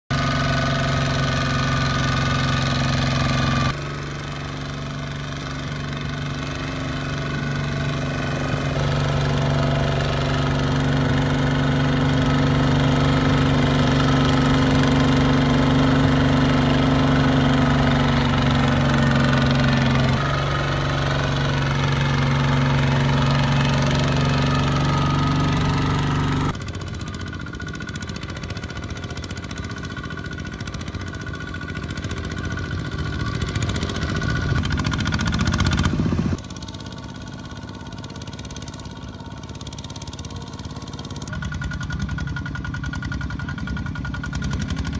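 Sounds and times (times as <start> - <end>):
walking tractor diesel engines: 0.1 - 44.9.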